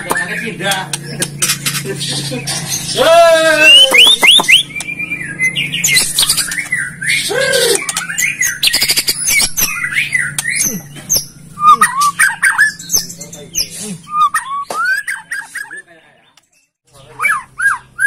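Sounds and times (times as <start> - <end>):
bird chirping and whistling: 0.0 - 15.9, 17.0 - 18.0.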